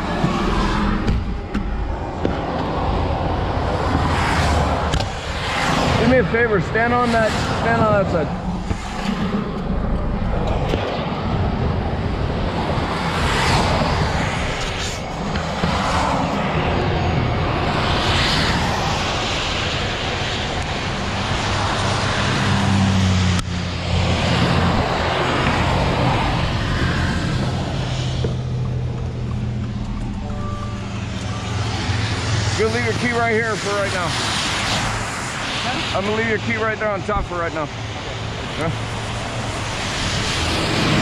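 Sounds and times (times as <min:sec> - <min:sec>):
traffic on wet pavement: 0:00.0 - 0:41.0.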